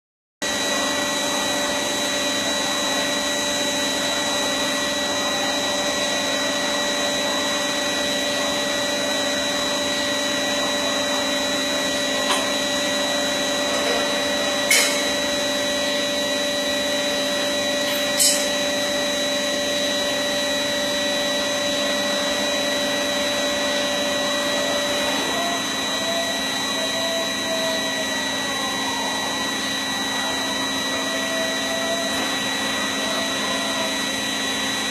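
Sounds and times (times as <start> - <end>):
machine whine over rushing noise: 0.5 - 34.9.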